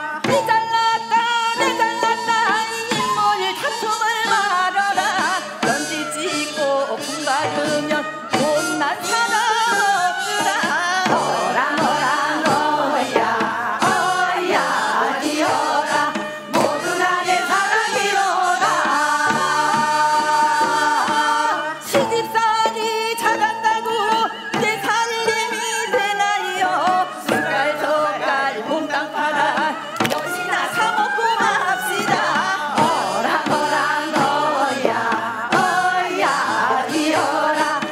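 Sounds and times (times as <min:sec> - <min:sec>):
women singing folk song: 0:00.0 - 0:37.9
percussion strokes: 0:00.2 - 0:37.9.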